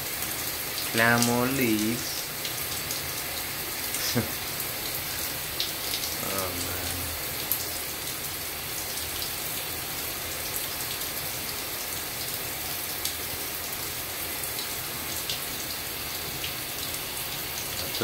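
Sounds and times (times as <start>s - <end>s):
shower water spray on leaves: 0.0s - 18.0s.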